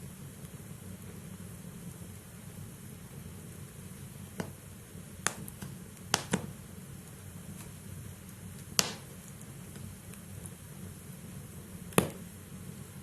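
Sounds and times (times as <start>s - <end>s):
burning logs popping: 0.0s - 13.0s
low rush of flame: 0.0s - 13.0s.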